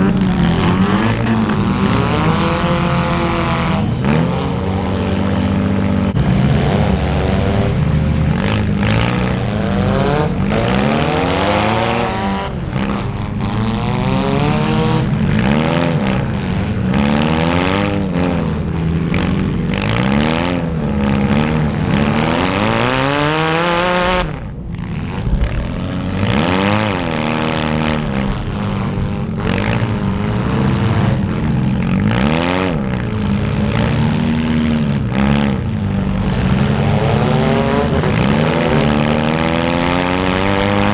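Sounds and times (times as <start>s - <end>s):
car engines revving: 0.0s - 40.9s
low drone: 0.0s - 40.9s.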